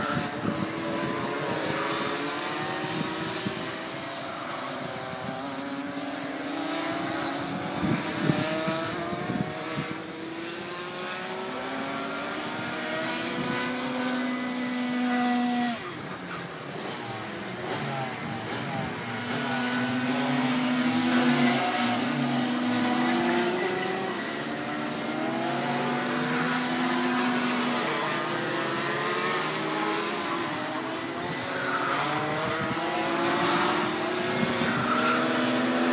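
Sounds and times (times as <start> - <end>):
racing kart engines: 0.0 - 35.9.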